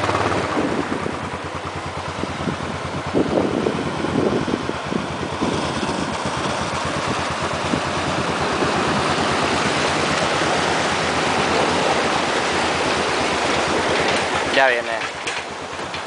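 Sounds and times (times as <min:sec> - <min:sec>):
low engine rumble: 0:00.0 - 0:16.0
water rushing and splashing: 0:00.0 - 0:16.0.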